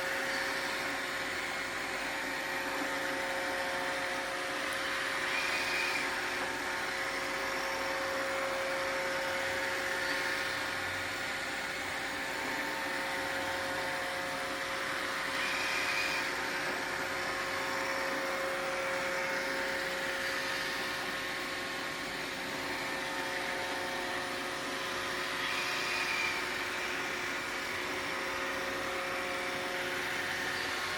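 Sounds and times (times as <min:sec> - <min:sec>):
robot vacuum whirring: 0:00.0 - 0:30.9.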